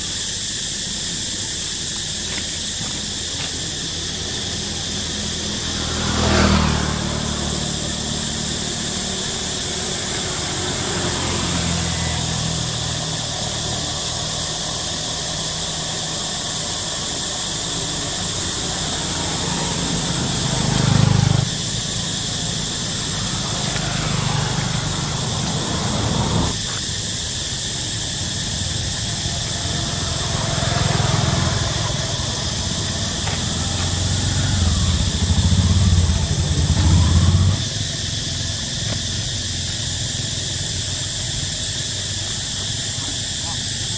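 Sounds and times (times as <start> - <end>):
high insect hiss: 0.0 - 43.9
motorbikes passing: 1.3 - 43.9.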